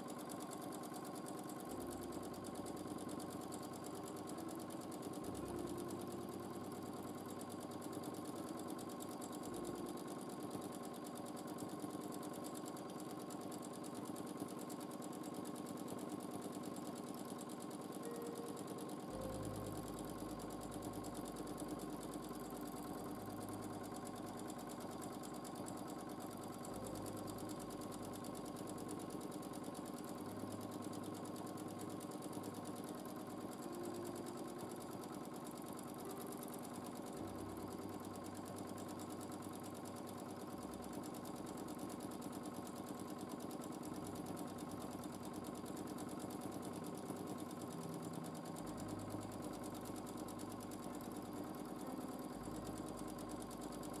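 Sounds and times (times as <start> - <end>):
sewing machine running: 0.0 - 54.0.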